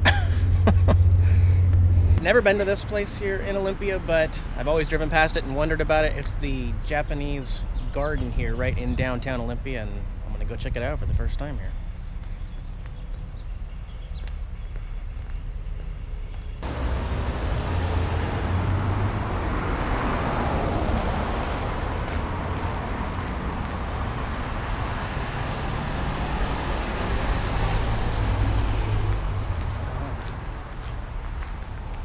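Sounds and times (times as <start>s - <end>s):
cars passing on city street: 0.0s - 32.0s.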